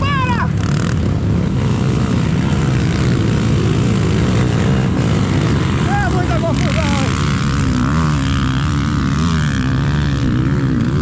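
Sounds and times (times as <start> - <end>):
off-road vehicle engines running: 0.0 - 11.0.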